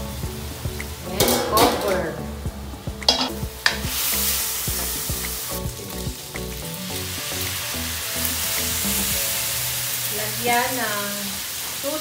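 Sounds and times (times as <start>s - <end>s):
meat sizzling in a wok: 0.0s - 1.4s, 2.3s - 12.0s.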